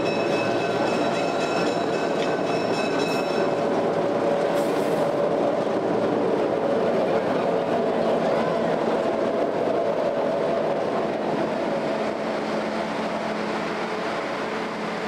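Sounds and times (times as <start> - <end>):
diesel locomotive engine: 0.0 - 15.0.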